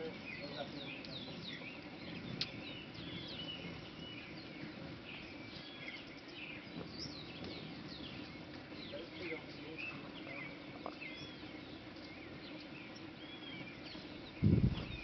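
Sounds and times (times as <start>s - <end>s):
hummingbirds chirping: 0.0s - 15.0s.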